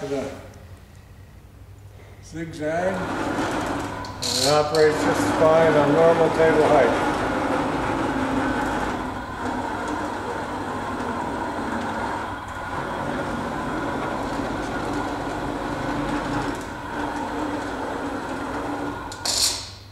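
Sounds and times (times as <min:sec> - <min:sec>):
drive motors whirring: 0:02.9 - 0:19.4
pitched motor whine: 0:02.9 - 0:19.6.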